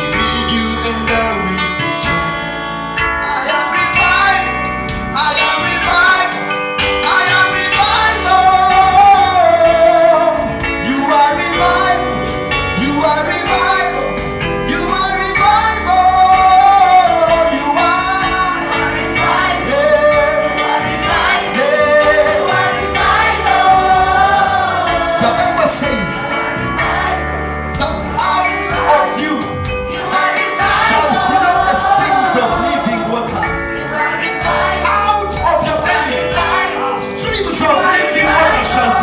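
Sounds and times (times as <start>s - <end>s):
keyboard and bass: 0.0s - 39.0s
voices singing gospel song: 0.0s - 39.0s.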